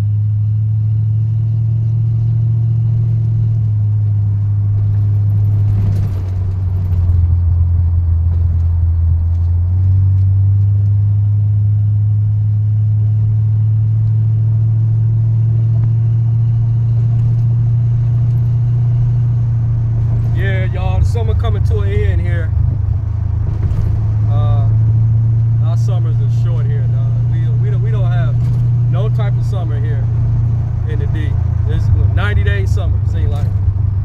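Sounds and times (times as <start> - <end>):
car engine droning: 0.0 - 34.0
road noise: 0.0 - 34.0.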